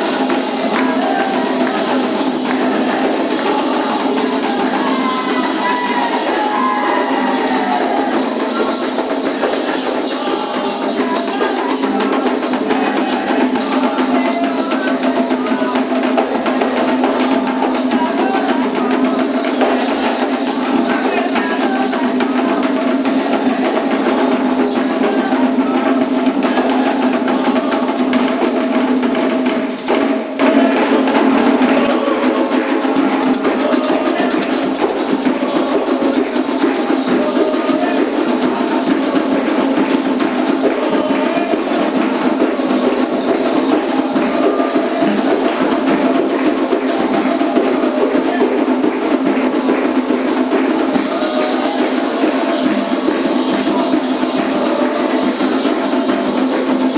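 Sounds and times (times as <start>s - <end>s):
hand drums playing: 0.0s - 56.9s
other percussion: 0.0s - 56.9s
voices singing: 0.0s - 56.9s.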